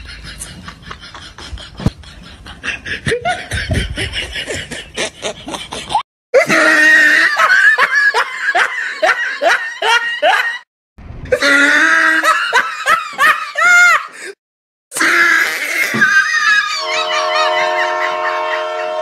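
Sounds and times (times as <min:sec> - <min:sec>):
laughter in ha-ha bursts: 0:00.0 - 0:10.7, 0:11.4 - 0:14.3, 0:16.0 - 0:19.0.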